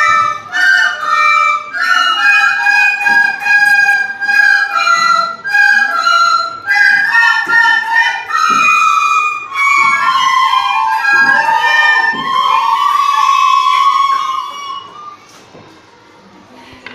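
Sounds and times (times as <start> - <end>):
recorder playing slow melody: 0.0 - 15.3.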